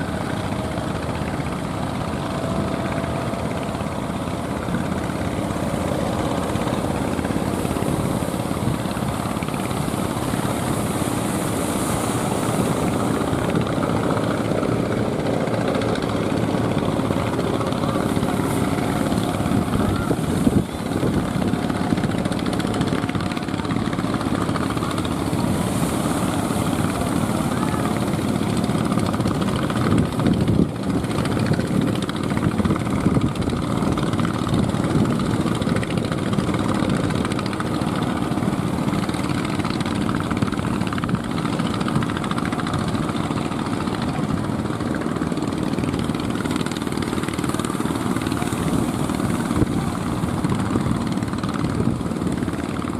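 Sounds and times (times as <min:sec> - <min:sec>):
heavy surf roaring: 0:00.0 - 0:52.9.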